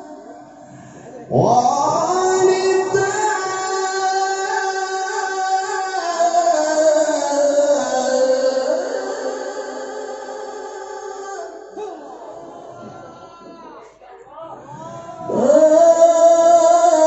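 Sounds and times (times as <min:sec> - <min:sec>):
person reciting melodically: 0:00.0 - 0:14.0, 0:14.6 - 0:17.0.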